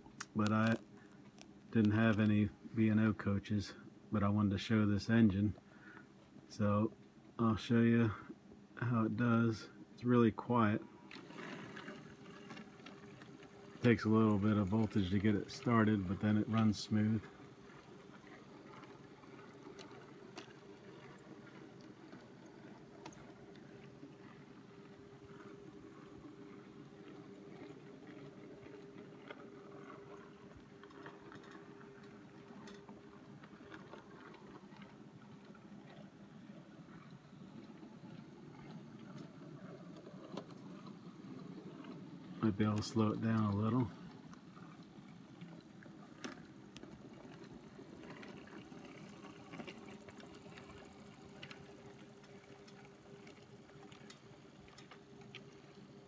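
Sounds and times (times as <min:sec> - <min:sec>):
wheels clicking on track: 0:00.0 - 0:06.0, 0:06.6 - 0:56.0
model locomotive motor hum: 0:00.0 - 0:56.0.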